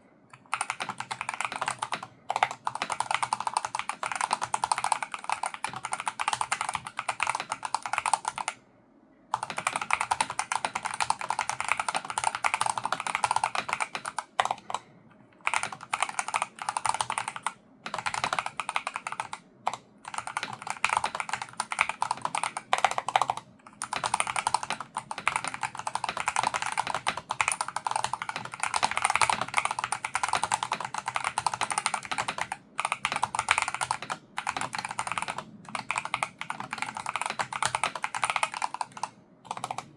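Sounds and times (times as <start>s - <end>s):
fast keyboard typing: 0.3s - 8.6s, 9.4s - 39.9s.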